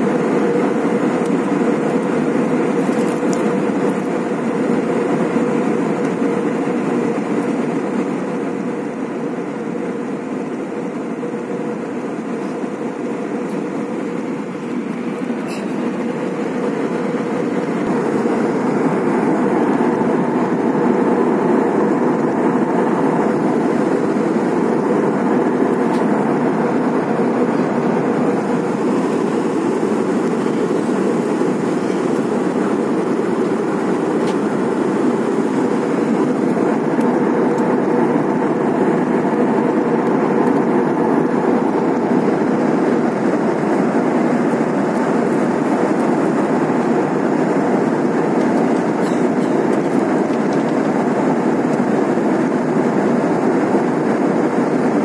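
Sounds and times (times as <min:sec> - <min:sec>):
jet engines droning: 0:00.0 - 0:55.0
rushing airflow: 0:00.0 - 0:55.0.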